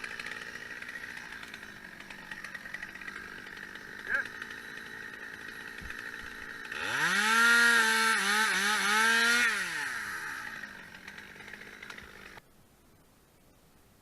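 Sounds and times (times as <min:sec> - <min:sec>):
chainsaw revving: 0:00.0 - 0:12.4.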